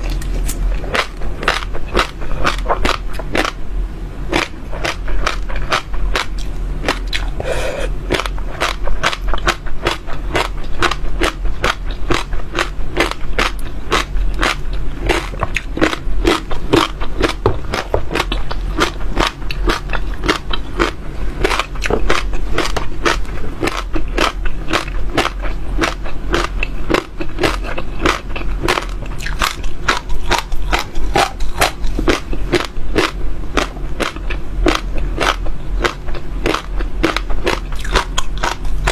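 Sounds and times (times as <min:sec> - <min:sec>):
chewing crunchy seeds: 0:00.0 - 0:03.6, 0:04.3 - 0:38.9
low hum: 0:00.0 - 0:38.9.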